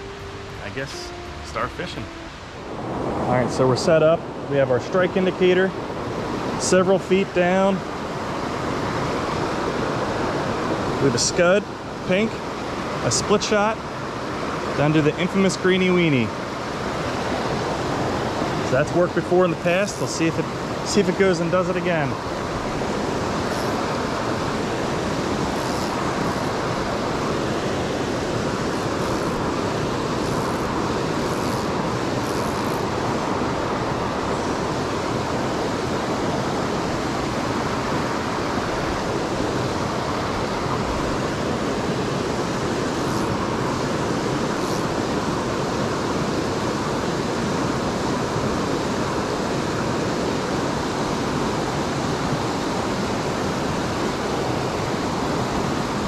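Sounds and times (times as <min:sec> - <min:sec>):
stream rushing over cascades: 0:00.0 - 0:56.0.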